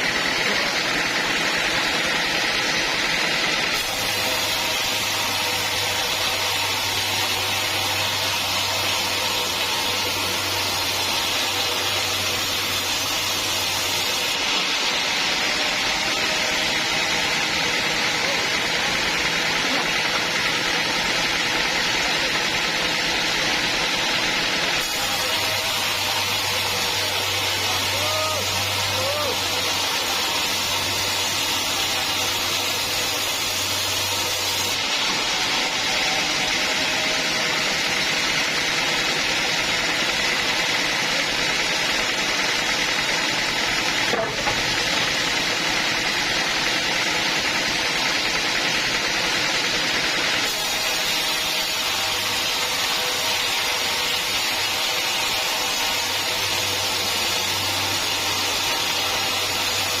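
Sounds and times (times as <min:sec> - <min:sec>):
sawmill saw cutting log: 0:00.0 - 1:00.0.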